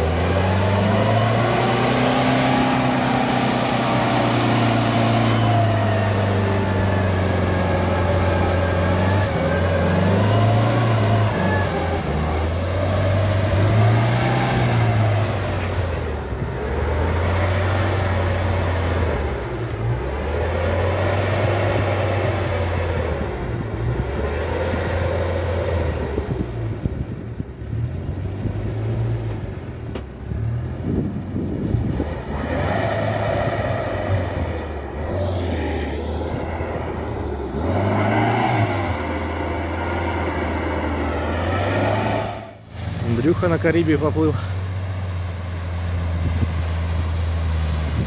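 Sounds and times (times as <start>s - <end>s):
van engine revving: 0.0s - 48.0s.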